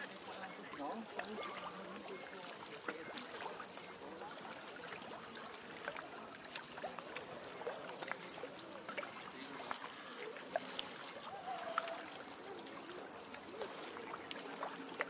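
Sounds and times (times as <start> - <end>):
water plops and splashes: 0.0 - 15.0
waves lapping against shore: 0.0 - 15.0.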